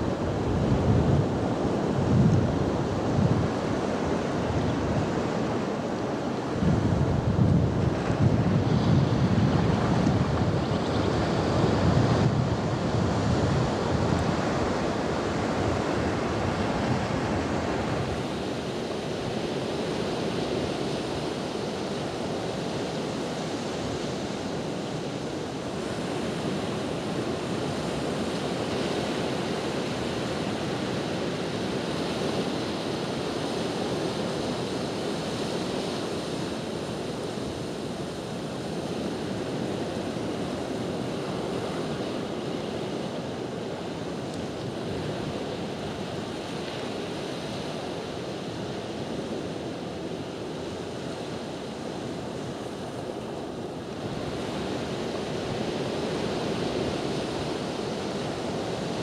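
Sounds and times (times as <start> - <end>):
beach surf: 0.0 - 59.0
wind on microphone: 0.0 - 59.0.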